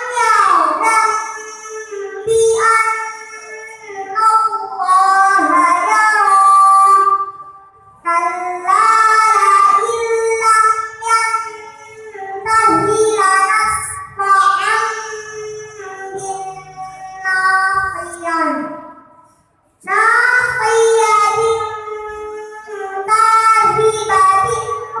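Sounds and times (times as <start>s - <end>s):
girl chanting melodically: 0.0s - 19.2s, 19.8s - 25.0s.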